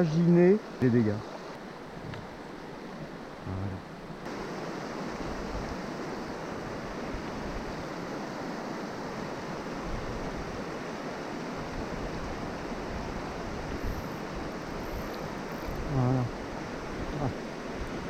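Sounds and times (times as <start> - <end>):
river current rushing: 0.0 - 18.0.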